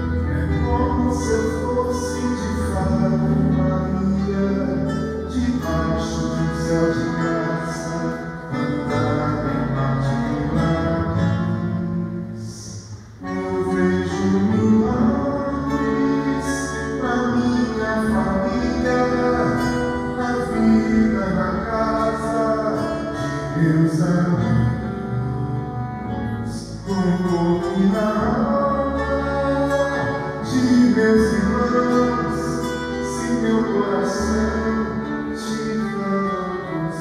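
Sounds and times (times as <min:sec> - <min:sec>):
accordion: 0:00.0 - 0:37.0
acoustic guitar strummed and plucked: 0:00.0 - 0:37.0
bass: 0:00.0 - 0:37.0.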